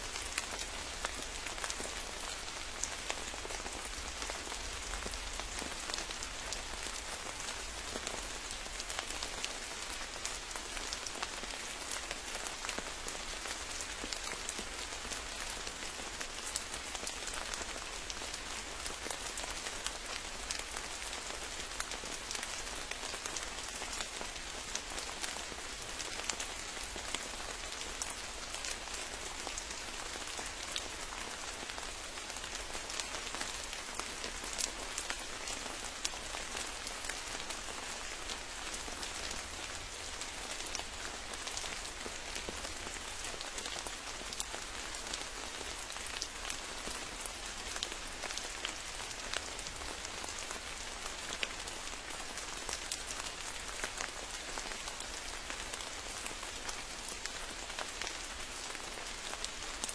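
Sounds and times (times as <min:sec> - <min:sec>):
rain falling on foliage: 0:00.0 - 0:59.9
raindrops ticking on surfaces: 0:00.1 - 0:59.9.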